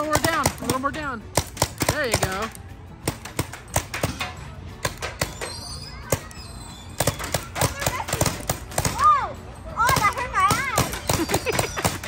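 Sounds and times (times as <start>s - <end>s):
sharp irregular clicking hits: 0.0s - 6.4s, 7.0s - 9.1s, 9.8s - 12.0s.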